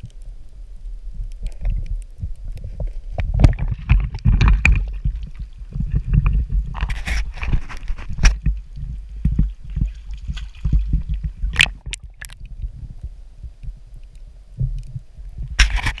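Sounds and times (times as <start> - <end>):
low rumble: 0.0 - 16.0
water sloshing and gurgling: 0.0 - 16.0.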